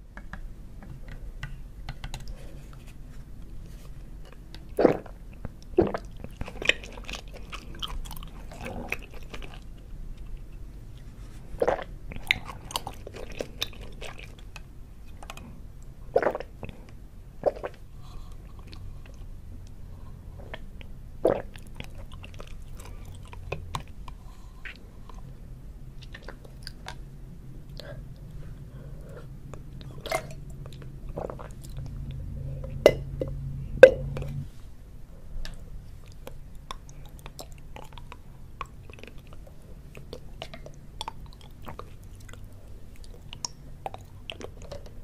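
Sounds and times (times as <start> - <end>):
chewing tapioca pearls: 4.2 - 19.8, 20.4 - 34.4, 35.4 - 45.0.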